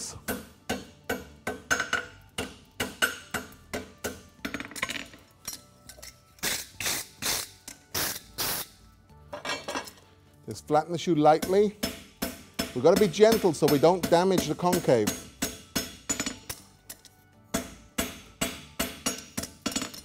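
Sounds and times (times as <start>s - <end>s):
hammer striking steel on anvil: 0.0s - 8.7s, 11.3s - 20.0s.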